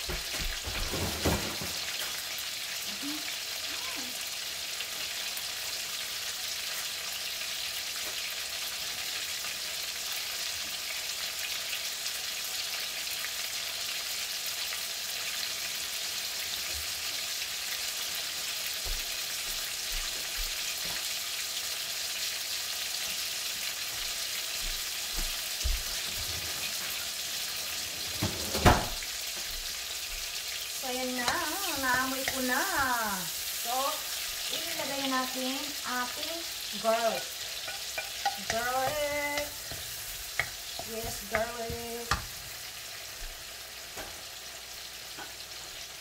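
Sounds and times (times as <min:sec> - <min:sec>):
food sizzling in oil: 0:00.0 - 0:46.0.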